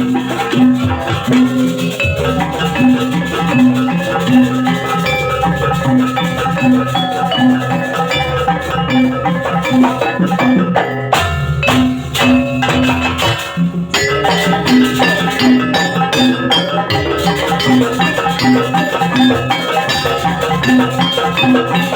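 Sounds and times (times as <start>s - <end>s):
drums: 0.0s - 21.9s
metallophones playing melody: 0.0s - 21.9s.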